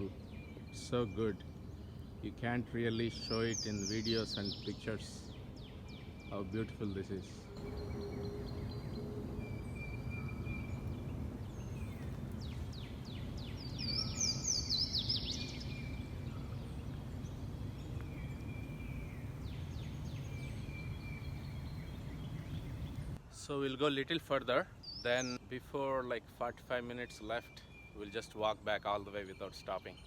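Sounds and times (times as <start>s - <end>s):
low background rush: 0.0s - 29.2s
wild birds singing: 0.0s - 30.0s.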